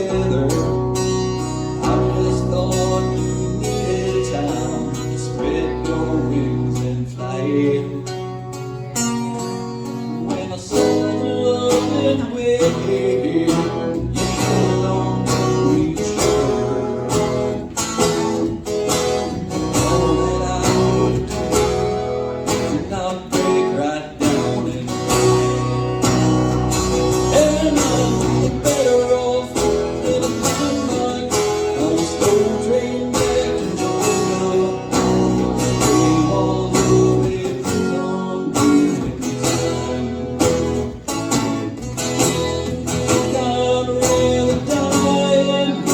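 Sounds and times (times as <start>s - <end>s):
acoustic guitar strumming: 0.0s - 45.9s
live country song: 0.0s - 45.9s.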